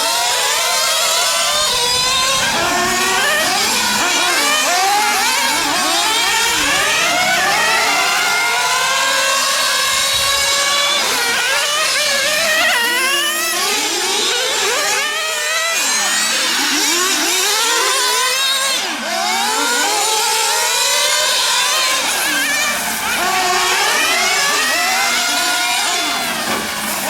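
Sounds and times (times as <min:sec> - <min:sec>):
rc car engines revving: 0:00.0 - 0:27.0.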